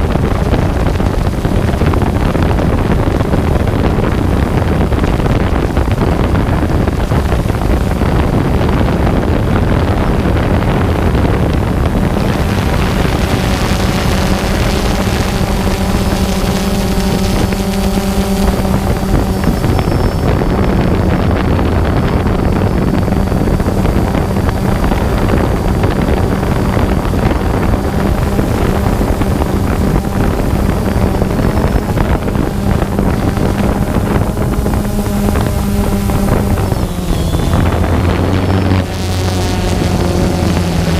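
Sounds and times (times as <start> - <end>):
steady motor hum: 0.0 - 40.9
wind buffeting microphone: 0.0 - 40.9.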